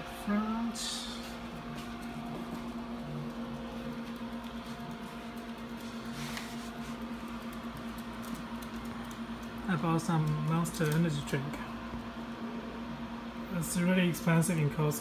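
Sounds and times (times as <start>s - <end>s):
fridge electrical hum: 0.0s - 15.0s.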